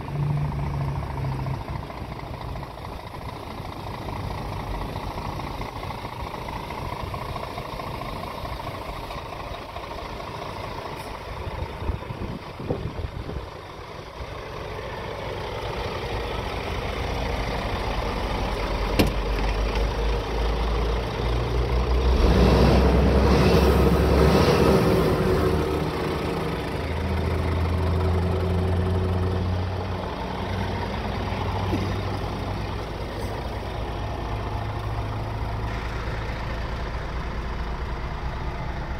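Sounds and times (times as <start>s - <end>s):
truck diesel engine idling: 0.0s - 38.9s.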